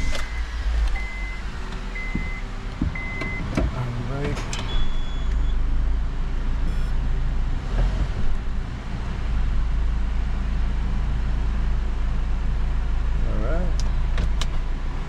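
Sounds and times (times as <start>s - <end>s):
car engine running low hum: 0.0s - 15.0s.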